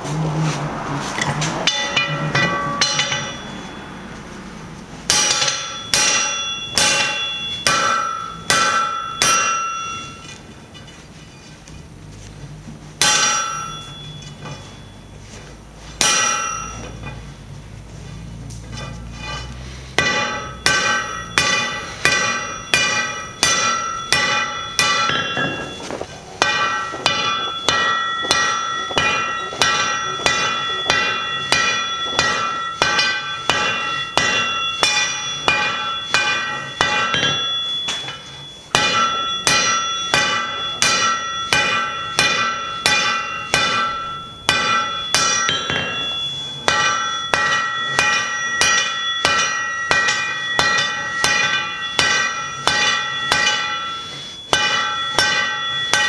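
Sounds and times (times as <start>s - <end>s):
hammer clanging on anvil: 1.2s - 4.3s, 5.0s - 11.1s, 13.0s - 17.4s, 18.2s - 56.0s.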